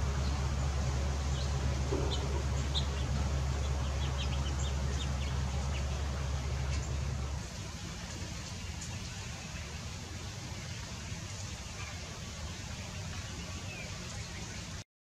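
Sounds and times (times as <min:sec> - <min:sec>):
songbirds chirping: 0:00.0 - 0:14.8
steady low hum: 0:00.0 - 0:14.8.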